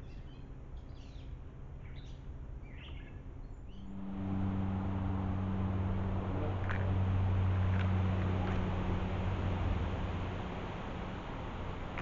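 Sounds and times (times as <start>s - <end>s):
low hum with hiss: 0.0s - 12.0s
birds chirping: 1.9s - 12.0s.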